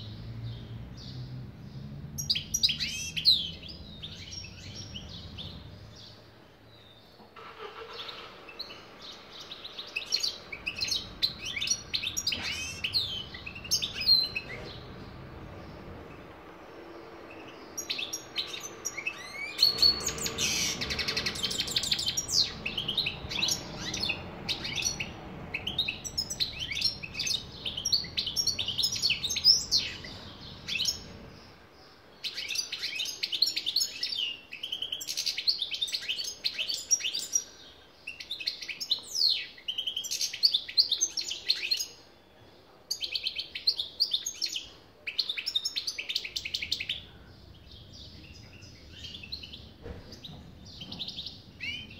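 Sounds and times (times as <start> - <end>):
bird twittering song: 0.0 - 51.9.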